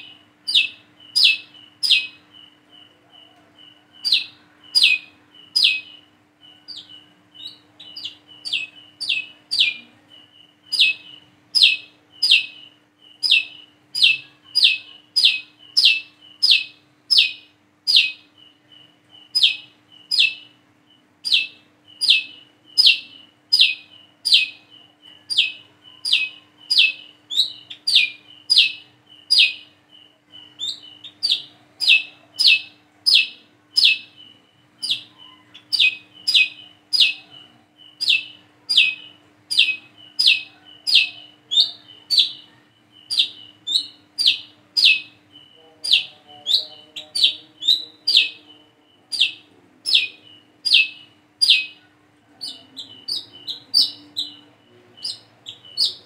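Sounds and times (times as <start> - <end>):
sunbird sharp calls: 0.0 - 20.6, 21.2 - 56.0.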